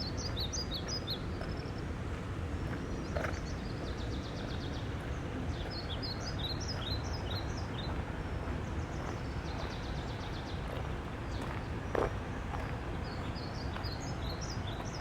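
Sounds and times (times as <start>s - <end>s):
river water flowing: 0.1s - 15.0s.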